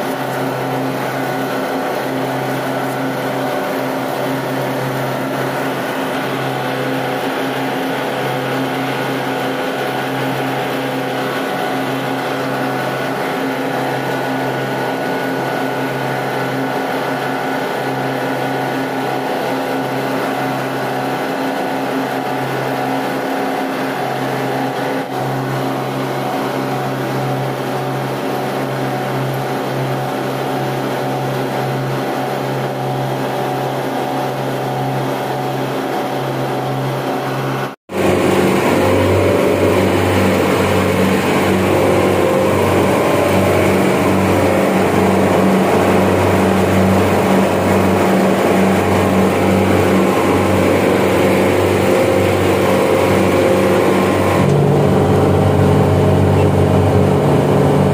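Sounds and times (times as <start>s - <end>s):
chiller machinery drone: 0.0s - 57.9s.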